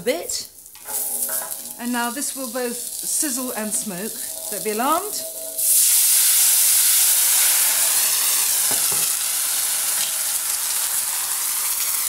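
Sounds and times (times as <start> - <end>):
water sizzling in hot fat: 0.1 - 12.0.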